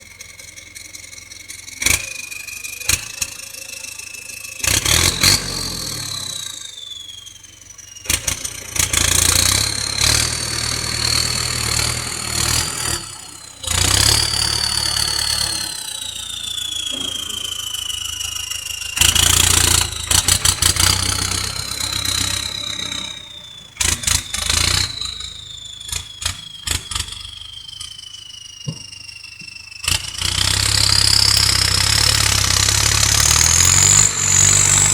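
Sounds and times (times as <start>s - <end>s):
tractor engine revving: 0.0s - 34.9s
turbocharger whistle: 0.0s - 34.9s.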